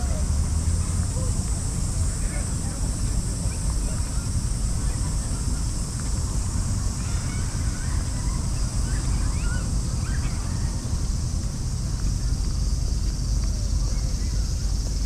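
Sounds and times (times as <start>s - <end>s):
cicadas buzzing: 0.0s - 15.0s
wind rumbling on microphone: 0.0s - 15.0s.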